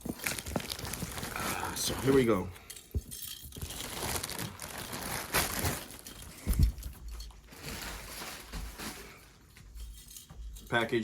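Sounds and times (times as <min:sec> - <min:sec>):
cardboard packaging rustling: 0:00.0 - 0:11.0.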